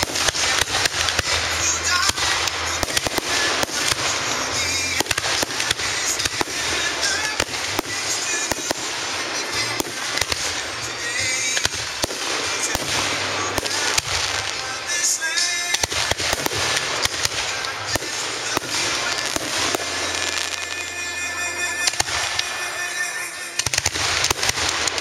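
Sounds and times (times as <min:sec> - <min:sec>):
fireworks bursting: 0:00.0 - 0:25.0
fireworks crackling: 0:00.0 - 0:25.0.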